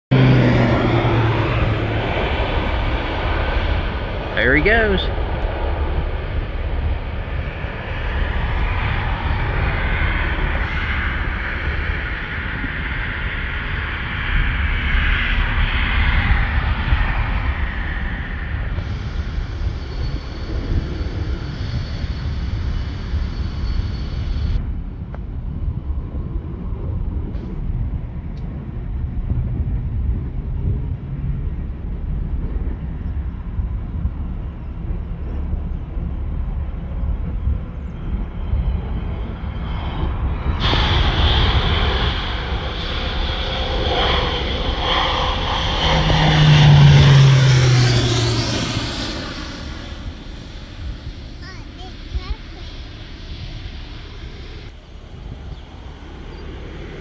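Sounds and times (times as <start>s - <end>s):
airplane engine and propeller: 0.1s - 57.0s.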